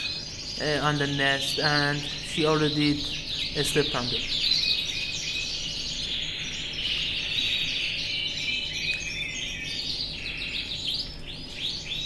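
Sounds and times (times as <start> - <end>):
canaries singing and trilling: 0.0 - 12.0.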